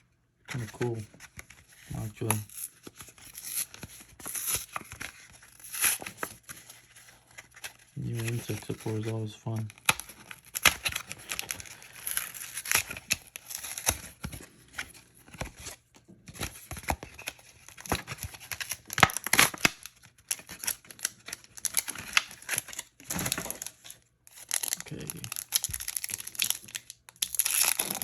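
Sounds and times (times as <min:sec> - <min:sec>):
foil wrapper crinkling: 0:00.6 - 0:14.3, 0:16.6 - 0:28.0.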